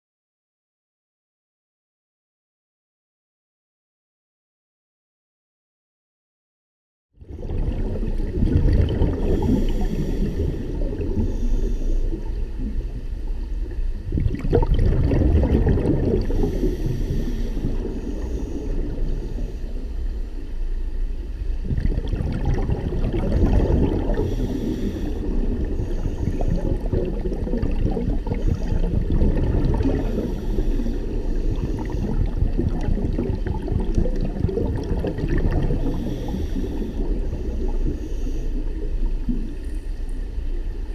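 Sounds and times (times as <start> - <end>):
regulator bubbles gurgling underwater: 7.2 - 40.9.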